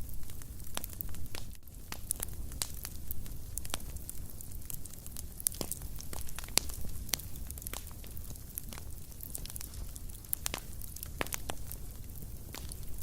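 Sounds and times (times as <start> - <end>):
fire pops and snaps: 0.0 - 13.0
low rumble of flames: 0.0 - 13.0
wood fire crackling: 0.0 - 13.0.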